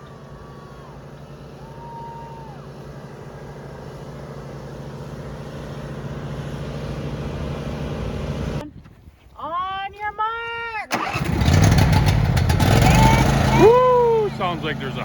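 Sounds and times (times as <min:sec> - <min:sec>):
riding lawn mower engine: 0:00.0 - 0:08.6, 0:10.9 - 0:15.0.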